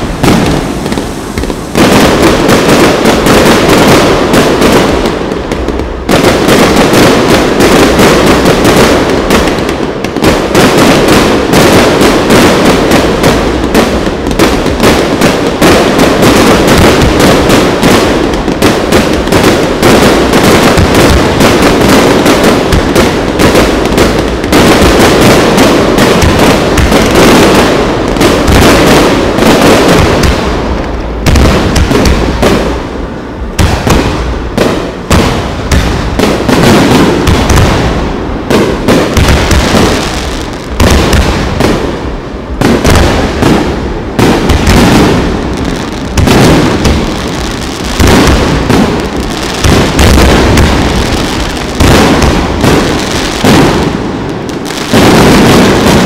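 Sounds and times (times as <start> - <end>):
firework crackles: 0.0 - 56.0.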